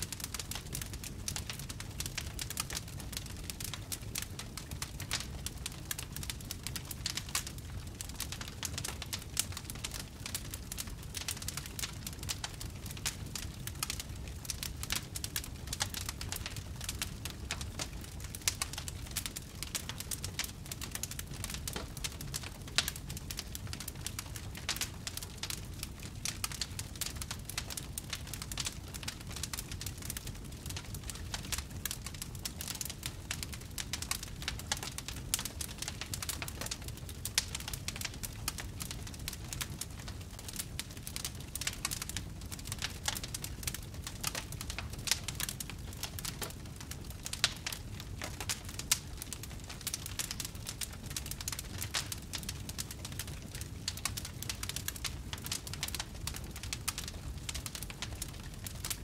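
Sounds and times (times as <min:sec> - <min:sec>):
logs crackling and popping in fire: 0:00.0 - 0:59.0.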